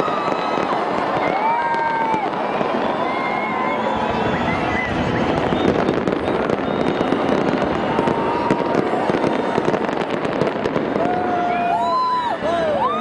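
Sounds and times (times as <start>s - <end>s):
firework bangs and crackles: 0.0s - 13.0s.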